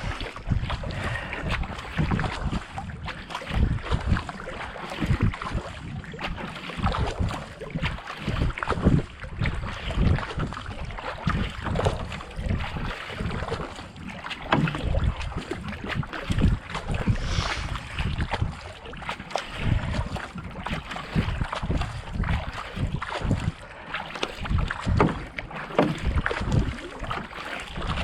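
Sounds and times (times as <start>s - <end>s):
wind buffeting microphone: 0.0s - 13.9s, 14.5s - 23.7s, 24.4s - 25.3s, 25.9s - 28.0s
paddle strokes splashing: 0.0s - 28.0s.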